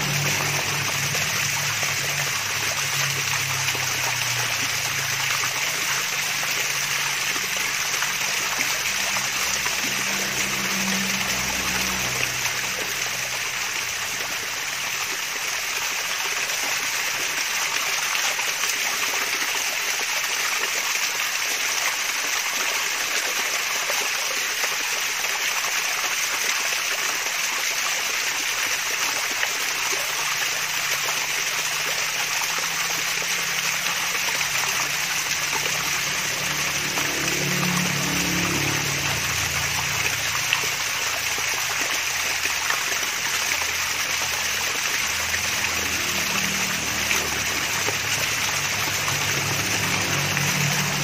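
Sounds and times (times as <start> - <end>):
small waterfall trickling: 0.0 - 51.0.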